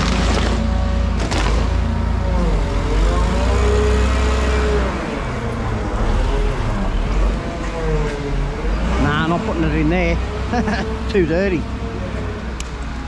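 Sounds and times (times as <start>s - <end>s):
forklift engine drone with whine: 0.0s - 13.0s.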